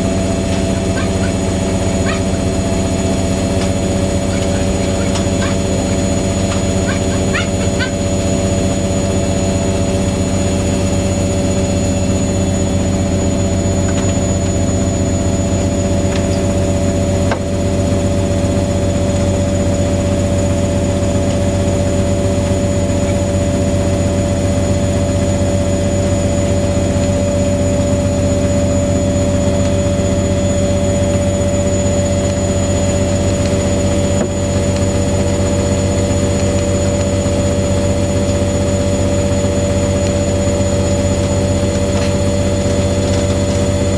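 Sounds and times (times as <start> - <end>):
washing machine motor hum: 0.0 - 43.9
washing machine whine: 0.0 - 43.9.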